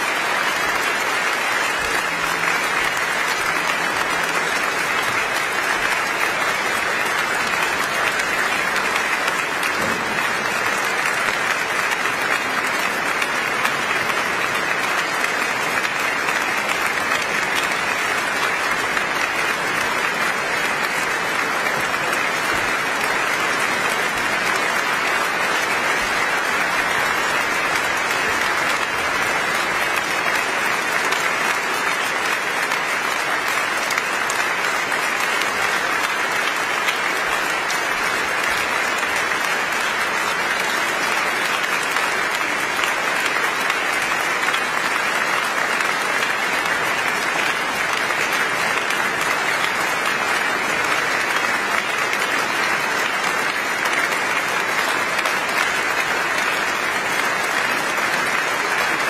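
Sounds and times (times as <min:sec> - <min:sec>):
large audience applauding: 0:00.0 - 0:59.0.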